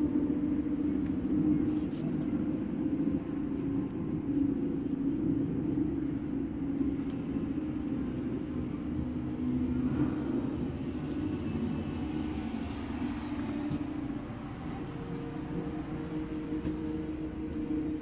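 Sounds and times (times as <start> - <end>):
machine droning: 0.0 - 18.0.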